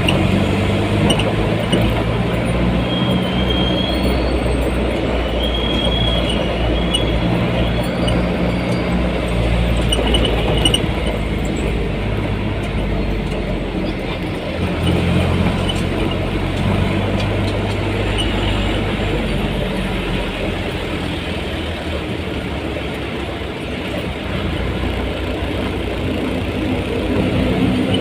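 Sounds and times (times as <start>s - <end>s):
road and traffic noise: 0.0s - 28.0s
vehicle engine hum: 0.0s - 28.0s.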